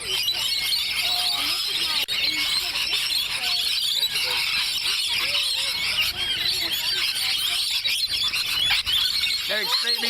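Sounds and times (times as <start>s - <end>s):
lorikeet flock screeching: 0.0s - 10.0s.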